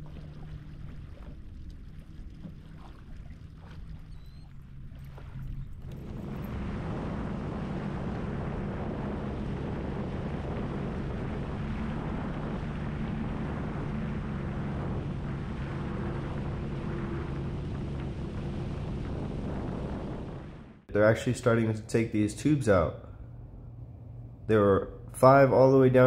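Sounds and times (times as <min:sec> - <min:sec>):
jet ski engine drone: 0:00.0 - 0:26.0
water and wind noise: 0:00.0 - 0:26.0.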